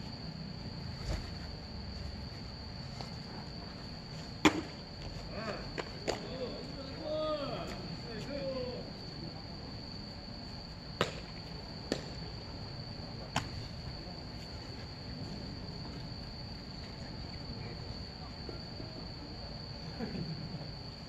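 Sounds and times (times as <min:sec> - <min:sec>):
insects trilling: 0:00.0 - 0:21.0
low outdoor hum: 0:00.0 - 0:21.0.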